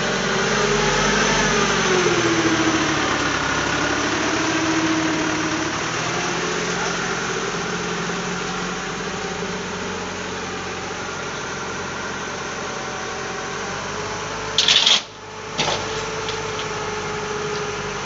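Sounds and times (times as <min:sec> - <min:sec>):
crane humming: 0:00.0 - 0:18.0
truck engine running: 0:00.0 - 0:18.0.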